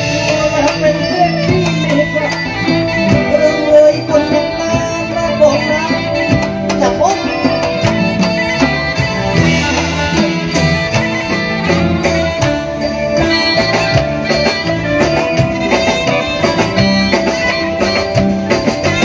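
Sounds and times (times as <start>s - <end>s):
band playing: 0.0s - 19.0s
sharp percussion strikes: 0.0s - 19.0s
shifting bass notes: 0.0s - 19.0s.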